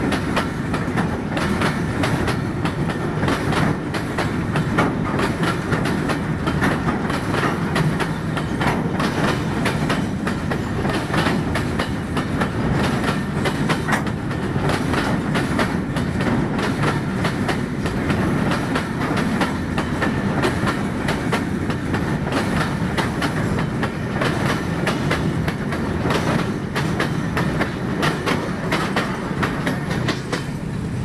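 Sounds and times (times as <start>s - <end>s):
train wheels rumbling on rails: 0.0s - 31.0s
wheels clacking over rail joints: 0.0s - 31.0s.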